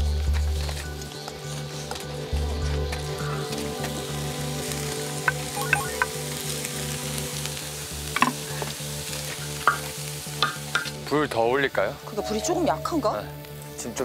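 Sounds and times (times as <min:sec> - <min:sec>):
scallions sizzling in hot oil: 0:00.1 - 0:14.0.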